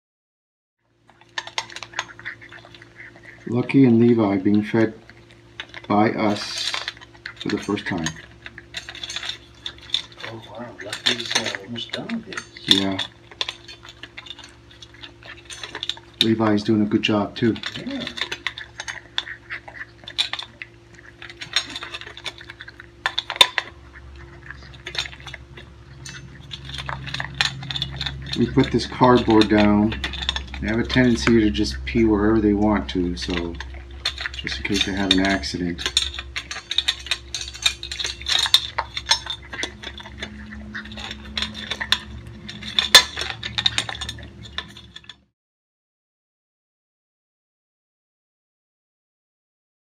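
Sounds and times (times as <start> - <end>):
puppies eating kibble from metal bowls: 0.9 - 45.3.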